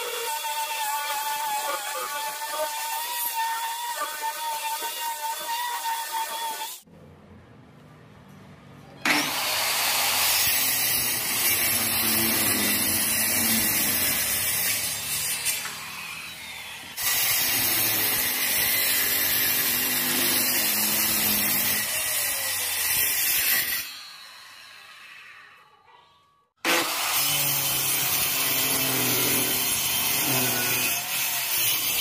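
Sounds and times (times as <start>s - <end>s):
circular saw cutting wood: 0.0s - 6.9s, 9.0s - 25.7s, 26.6s - 32.0s.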